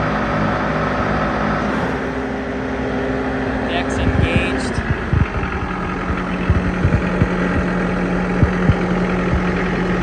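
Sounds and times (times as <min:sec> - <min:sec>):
diesel engine idling: 0:00.0 - 0:10.0
short low thumps: 0:01.6 - 0:10.0.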